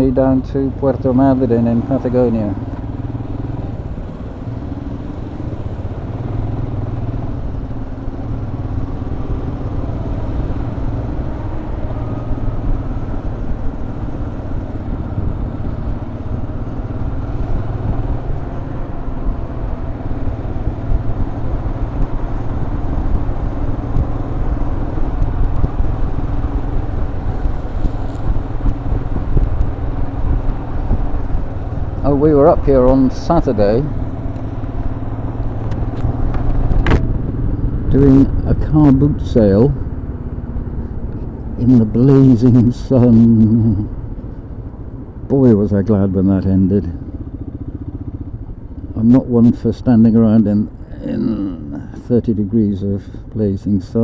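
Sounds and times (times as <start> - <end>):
motorcycle engine running: 0.0 - 52.4
road and wind rush: 0.0 - 54.0.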